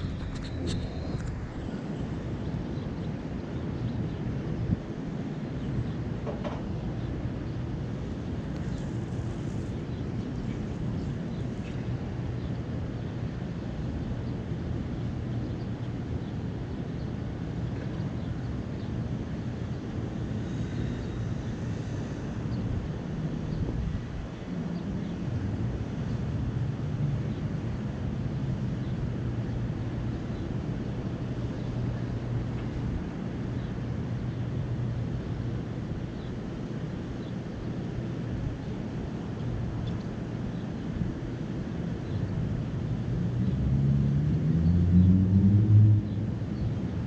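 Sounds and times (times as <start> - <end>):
constant low hum: 0.0 - 47.0
distant city traffic rumble: 0.0 - 47.0.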